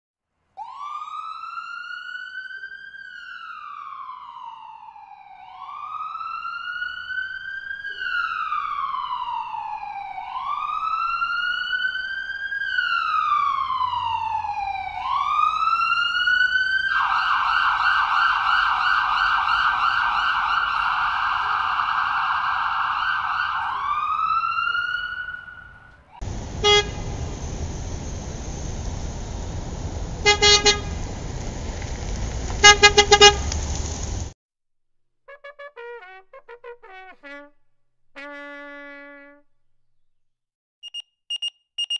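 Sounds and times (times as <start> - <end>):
emergency vehicle siren: 0.6 - 34.4.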